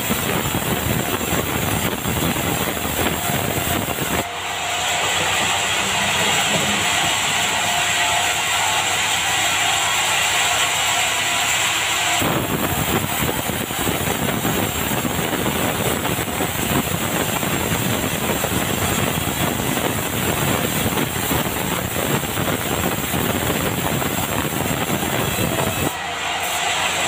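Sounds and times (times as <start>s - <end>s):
saw ripping wooden beam: 0.0s - 27.0s.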